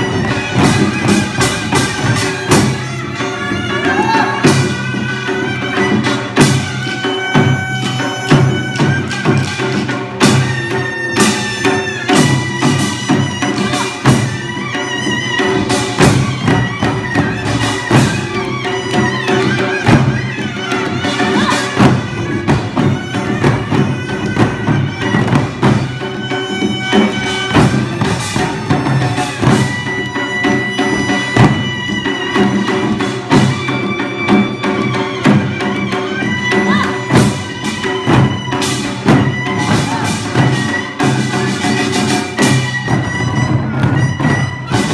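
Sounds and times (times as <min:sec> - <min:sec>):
drum and percussion strokes: 0:00.0 - 0:44.9
reedy wind instrument melody: 0:00.0 - 0:44.9.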